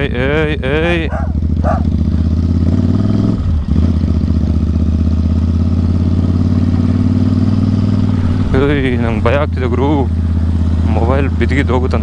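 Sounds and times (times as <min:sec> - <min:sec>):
motorcycle engine deep exhaust note: 0:00.0 - 0:12.0.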